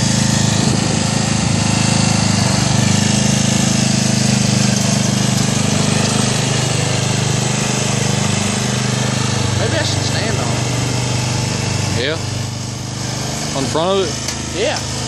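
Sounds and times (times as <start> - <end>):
riding mower engine running: 0.0 - 15.0.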